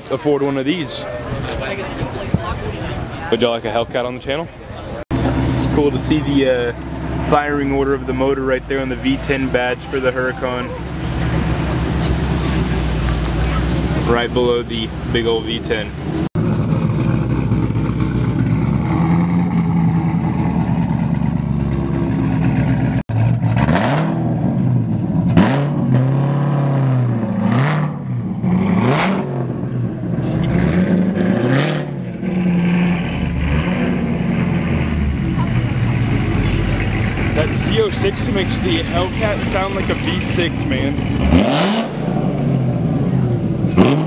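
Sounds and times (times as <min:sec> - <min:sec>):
car engine revving: 0:05.1 - 0:44.0.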